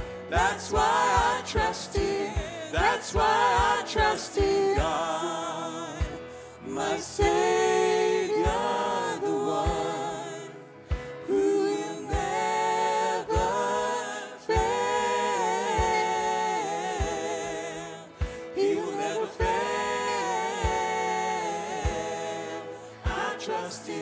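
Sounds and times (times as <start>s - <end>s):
men and women singing together: 0.0s - 24.0s.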